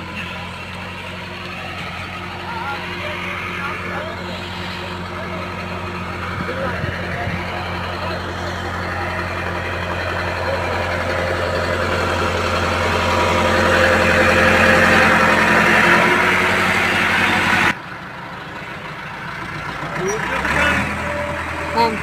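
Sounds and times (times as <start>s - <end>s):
tractor diesel engine straining: 0.0s - 22.0s.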